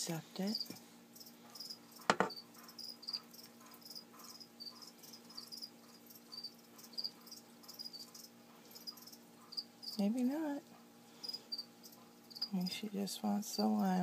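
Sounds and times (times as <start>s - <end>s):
faint steady hum: 0.0s - 14.0s
crickets chirping: 0.5s - 10.2s, 11.2s - 12.7s.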